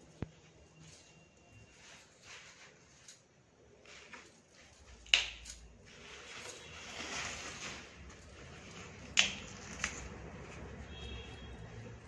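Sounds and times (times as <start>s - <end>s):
leafy greens rustling: 0.8s - 10.8s.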